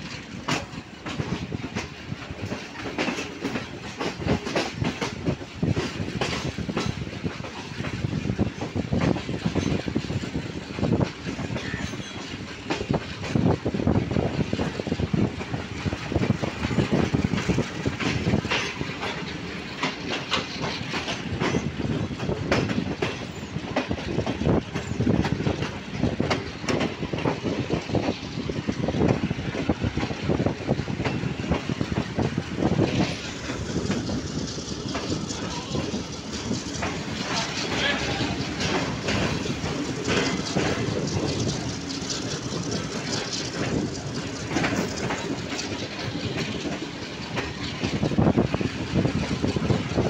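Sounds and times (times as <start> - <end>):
train wheels clattering over rail joints: 0.0 - 50.0.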